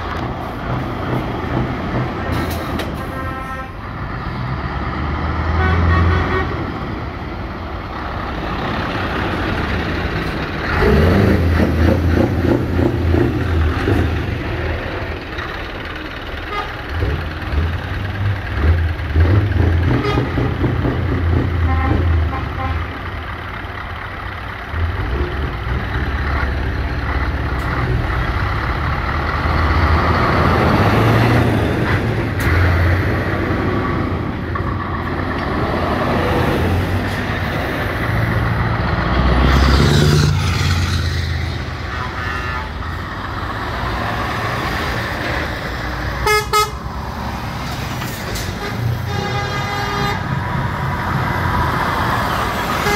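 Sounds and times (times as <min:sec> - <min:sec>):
heavy trucks driving past: 0:00.0 - 0:52.9.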